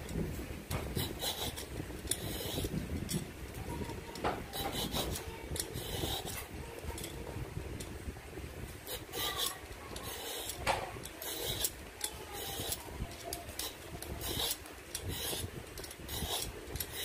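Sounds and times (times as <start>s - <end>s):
vegetable peeler scraping skin: 0.8s - 7.2s, 8.8s - 17.0s.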